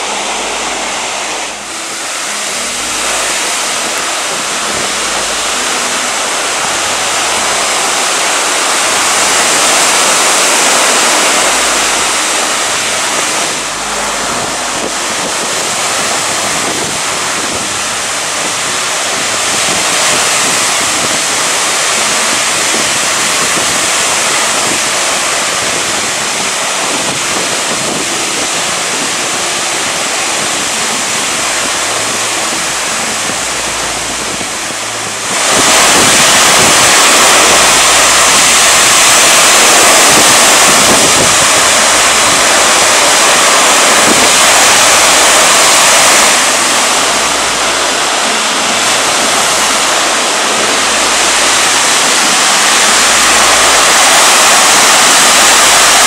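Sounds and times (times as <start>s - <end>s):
surf washing over pebbles: 0.0s - 56.0s
wind buffeting microphone: 0.0s - 56.0s.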